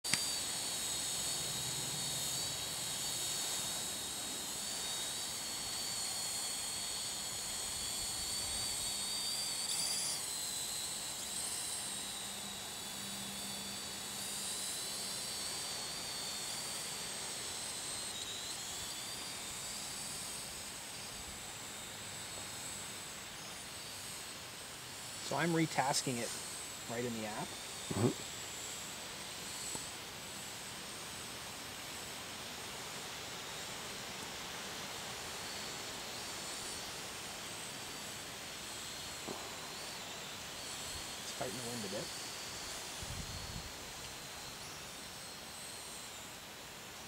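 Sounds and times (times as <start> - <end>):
drone propellers whining: 0.1 - 47.0.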